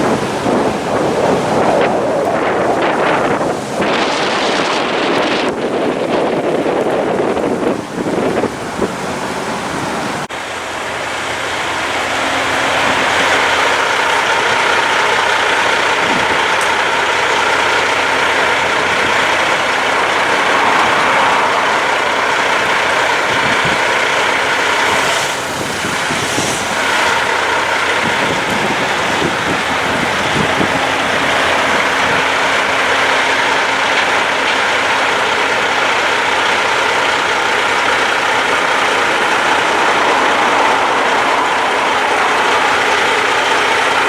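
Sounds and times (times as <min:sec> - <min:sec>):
diesel trucks running: 0:00.0 - 0:44.0.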